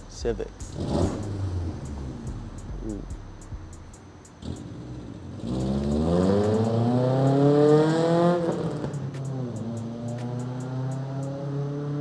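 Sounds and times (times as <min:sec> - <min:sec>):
car engine accelerating past: 0:00.7 - 0:03.1, 0:04.4 - 0:12.0.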